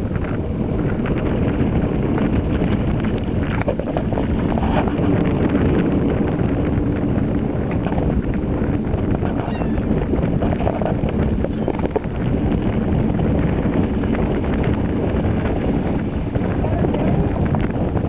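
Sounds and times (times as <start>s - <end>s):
boat engine humming: 0.0s - 18.0s
wind buffeting microphone: 0.0s - 18.0s.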